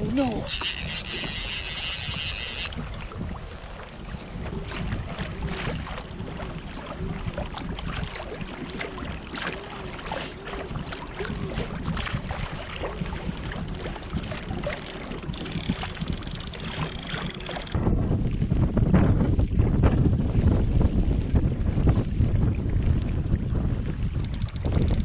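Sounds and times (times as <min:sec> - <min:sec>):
water lapping against kayak hull: 0:00.0 - 0:25.0.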